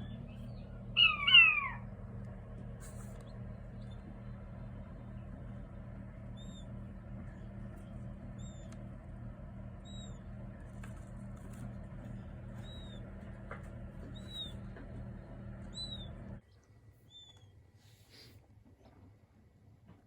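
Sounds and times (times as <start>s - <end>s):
quail chicks peeping: 0.0s - 17.5s
steady low hum: 0.0s - 20.0s.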